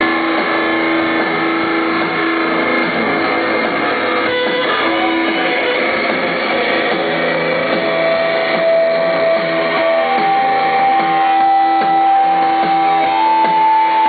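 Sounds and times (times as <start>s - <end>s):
electric guitar held notes: 0.0s - 14.0s
live rock band playing: 0.0s - 14.0s.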